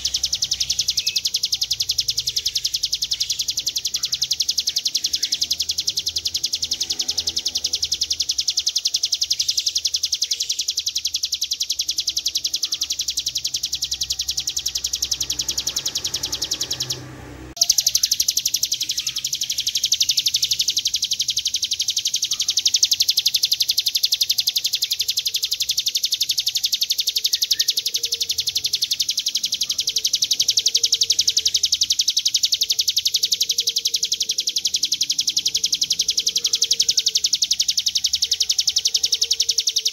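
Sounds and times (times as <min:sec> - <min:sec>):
bird singing rattling trill: 0:00.0 - 0:39.9.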